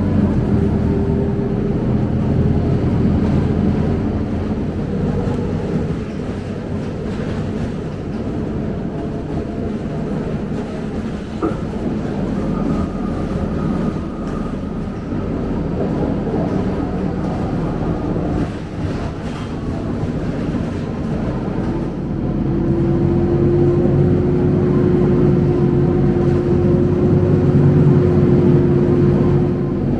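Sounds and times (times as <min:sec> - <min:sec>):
bus engine and road rumble: 0:00.0 - 0:29.9.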